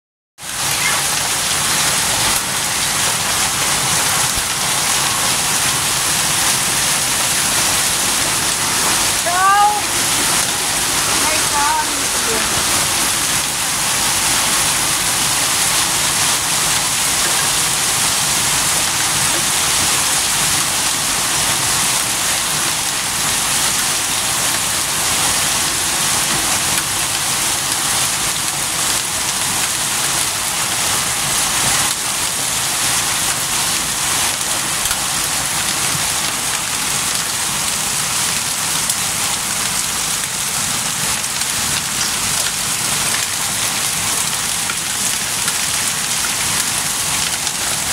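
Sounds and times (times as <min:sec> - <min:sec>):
hail pelting the ground: 0:00.4 - 0:47.9.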